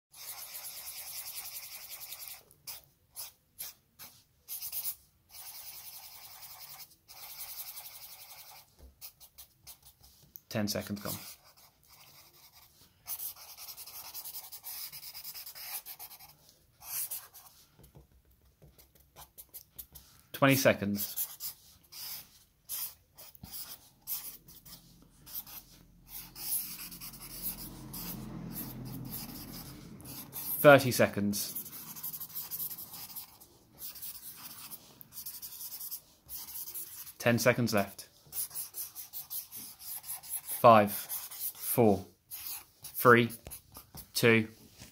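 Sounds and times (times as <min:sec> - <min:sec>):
marker scratching on paper: 0:00.1 - 0:44.9.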